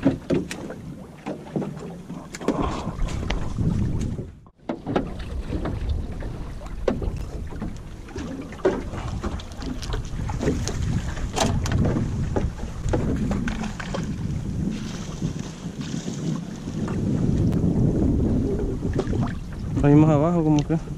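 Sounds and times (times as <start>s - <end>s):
water moving around hull: 0.0s - 20.9s
water splashes: 0.0s - 20.9s
wind on microphone: 0.0s - 20.9s.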